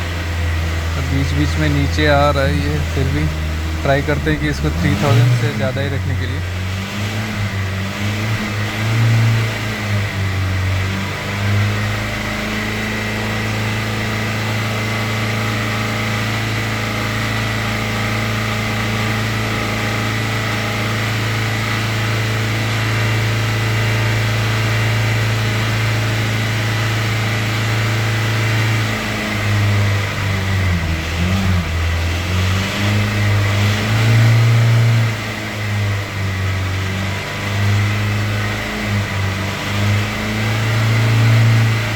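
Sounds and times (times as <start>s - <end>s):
car engine revving high: 0.0s - 41.9s.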